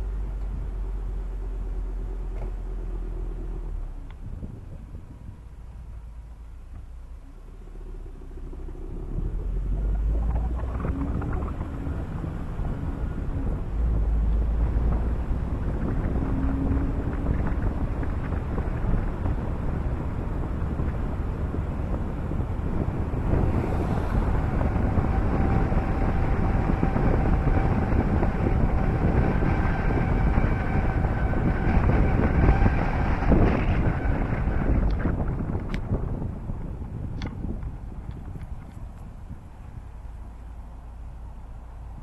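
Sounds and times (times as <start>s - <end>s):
car road and engine rumble: 0.0s - 42.0s
wind buffeting microphone: 2.4s - 7.0s, 8.1s - 42.0s.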